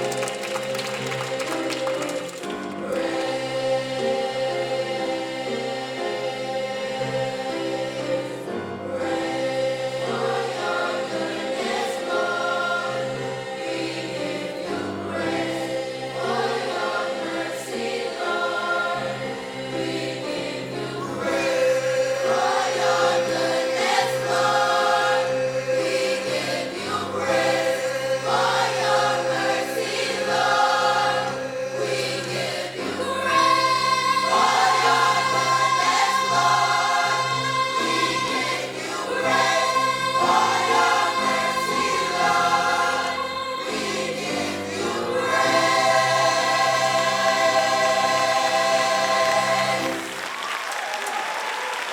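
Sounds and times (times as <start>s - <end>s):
gospel choir singing: 0.0s - 50.9s.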